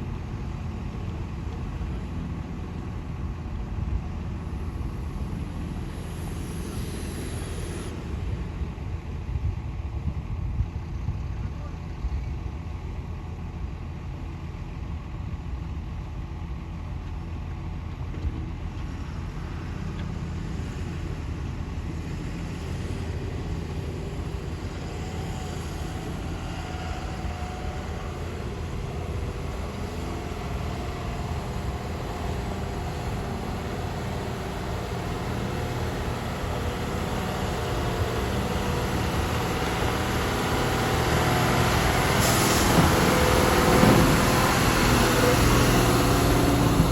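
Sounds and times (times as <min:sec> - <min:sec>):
diesel engine running steadily: 0:00.0 - 0:46.9.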